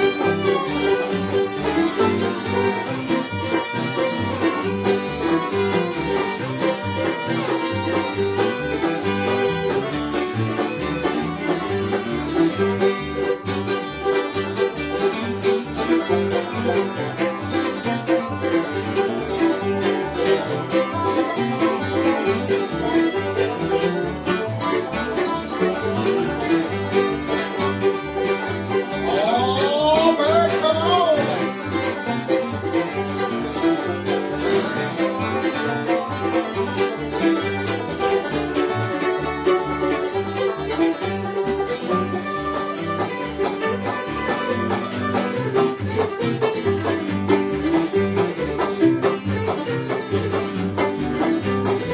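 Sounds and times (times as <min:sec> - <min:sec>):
bluegrass instrumental: 0:00.0 - 0:51.9.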